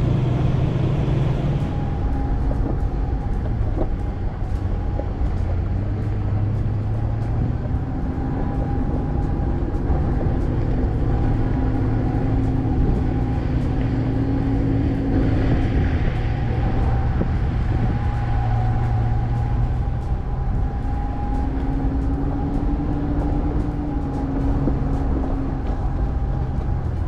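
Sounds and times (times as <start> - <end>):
vehicle driving on gravel road: 0.0 - 27.0.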